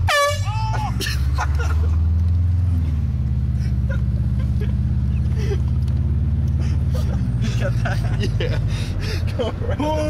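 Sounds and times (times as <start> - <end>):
car engine drone inside cabin: 0.0 - 10.0.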